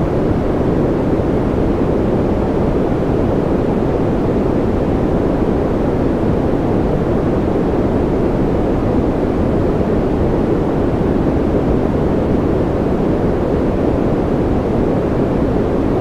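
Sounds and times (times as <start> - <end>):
deep white noise hiss: 0.0 - 16.0.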